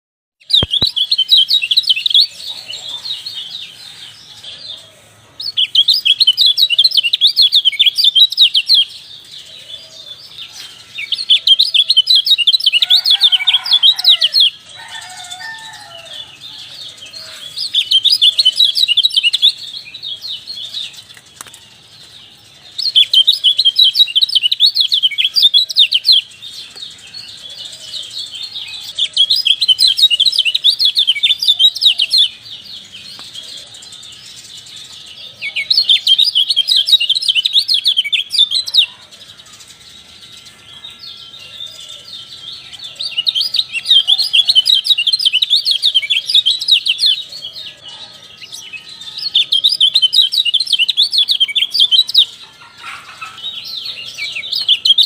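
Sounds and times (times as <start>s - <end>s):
bird twittering song: 0.4s - 55.0s.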